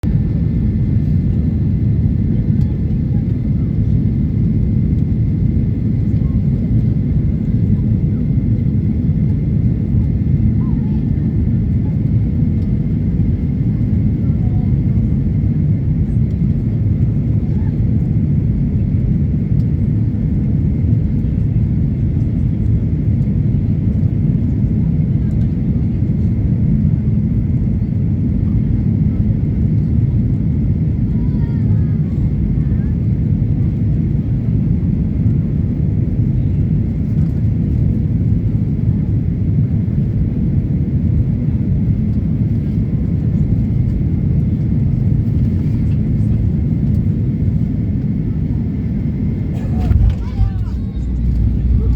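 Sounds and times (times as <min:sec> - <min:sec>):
airliner engine rumble: 0:00.0 - 0:51.9.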